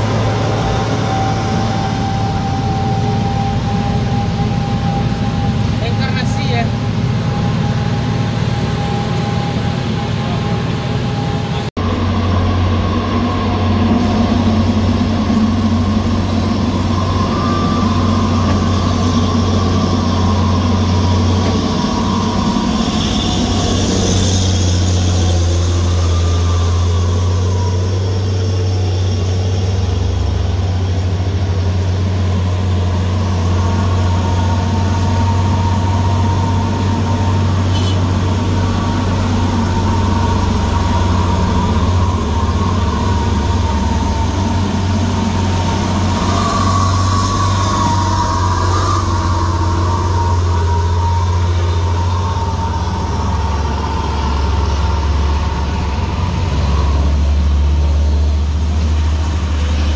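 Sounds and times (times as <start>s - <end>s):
heavy truck engines droning: 0.0s - 59.9s.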